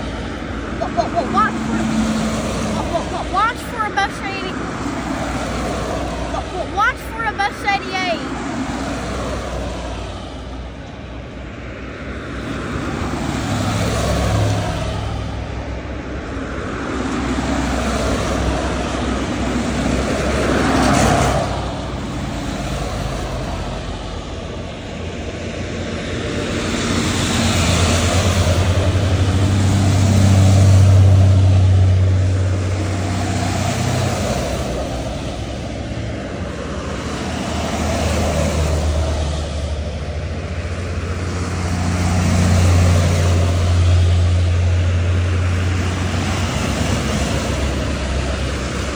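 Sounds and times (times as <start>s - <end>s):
buses driving past: 0.0s - 48.9s.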